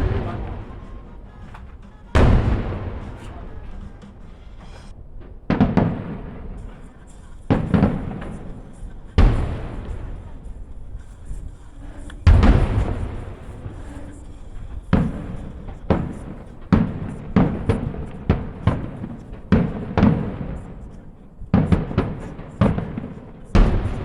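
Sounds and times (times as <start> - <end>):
fireworks booming: 0.0 - 24.0.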